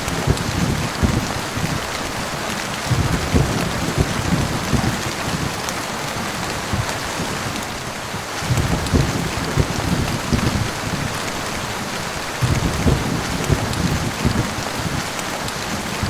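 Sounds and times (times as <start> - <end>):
low rumbles of thunder: 0.0 - 2.0, 2.8 - 7.6, 8.2 - 16.0
heavy rain hissing: 0.0 - 16.0.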